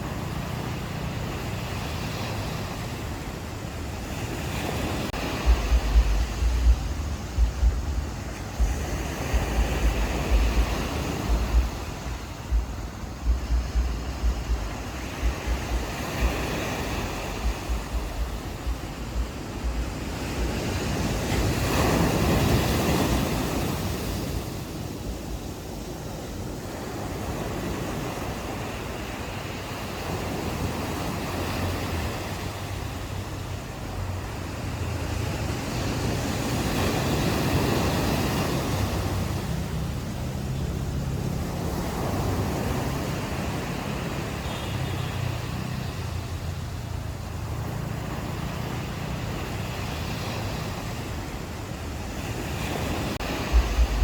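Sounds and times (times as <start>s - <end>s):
ocean surf breaking on shore: 0.0s - 54.0s
wind buffeting microphone: 0.0s - 54.0s.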